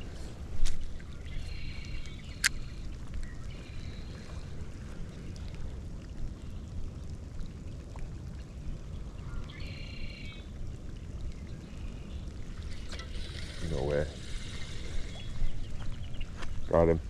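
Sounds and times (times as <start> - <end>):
rain pattering: 0.0 - 17.0
wind: 0.0 - 17.0.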